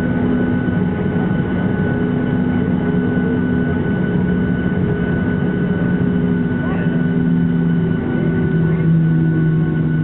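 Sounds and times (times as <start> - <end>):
jet engines droning in cabin: 0.0 - 10.0.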